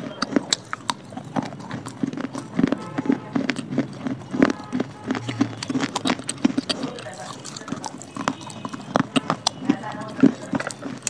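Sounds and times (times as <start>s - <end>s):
crunching of baked clay chewed: 0.0s - 11.0s.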